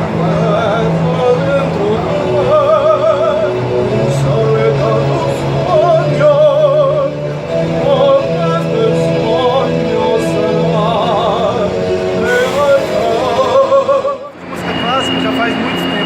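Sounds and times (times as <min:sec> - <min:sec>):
man singing opera: 0:00.0 - 0:14.5
sustained low accompaniment: 0:00.0 - 0:16.0.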